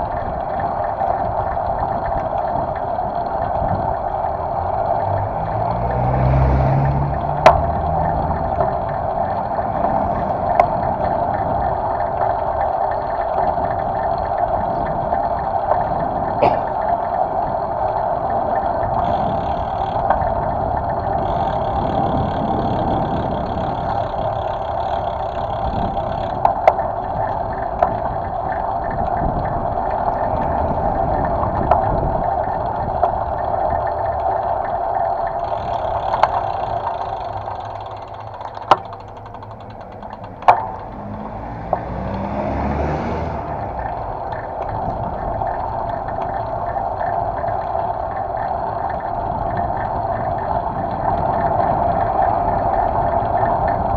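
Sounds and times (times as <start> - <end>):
bicycle rolling noise: 0.0 - 53.9
wind: 0.0 - 53.9.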